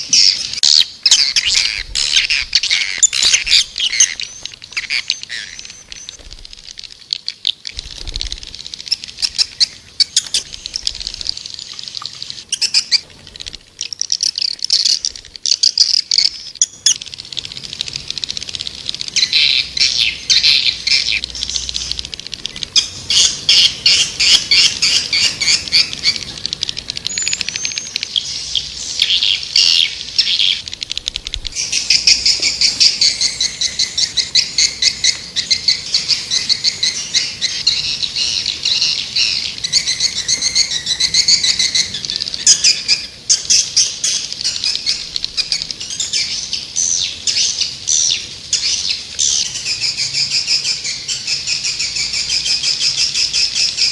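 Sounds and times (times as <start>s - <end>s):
swiftlets twittering: 0.0s - 46.6s.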